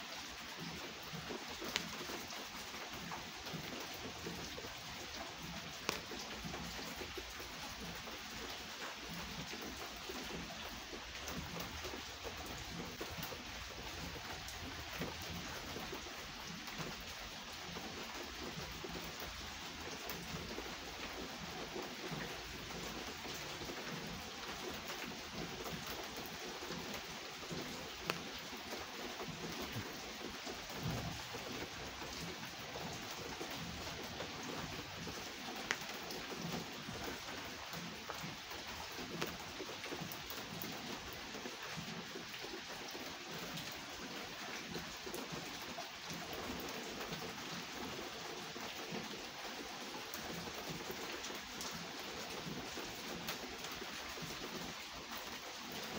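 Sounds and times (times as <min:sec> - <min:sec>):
rain on wooden table: 0:00.0 - 0:55.9.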